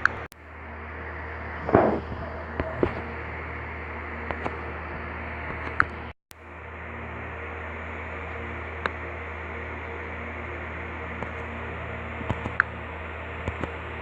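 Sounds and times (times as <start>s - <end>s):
low electronic hum: 0.0s - 14.0s.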